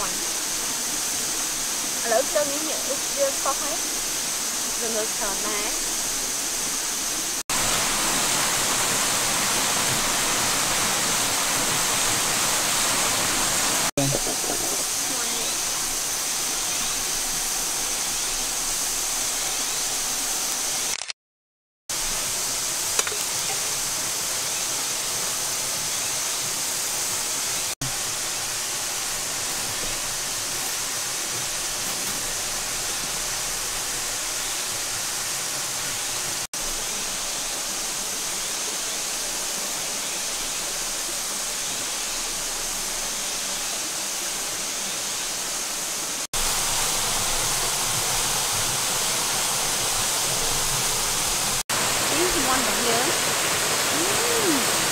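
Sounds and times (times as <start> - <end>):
flowing water rushing: 0.0 - 20.9, 21.9 - 54.9.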